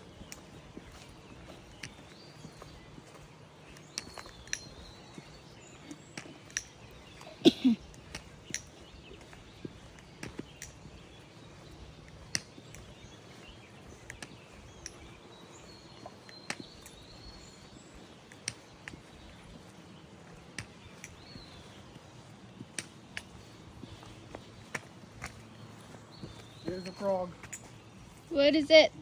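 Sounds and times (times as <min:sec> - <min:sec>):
low background noise: 0:00.0 - 0:29.0
sharp clicks: 0:00.2 - 0:10.9, 0:11.5 - 0:27.8.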